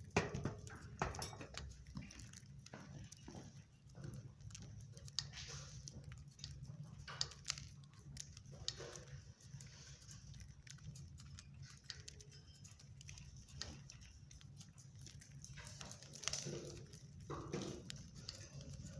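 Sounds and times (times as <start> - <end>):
light clicks and scratching: 0.0 - 18.9.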